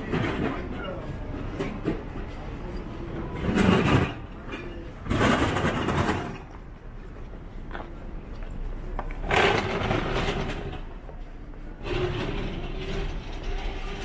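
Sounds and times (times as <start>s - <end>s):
busy street ambience: 0.0s - 14.0s
passing traffic noise: 0.0s - 14.0s.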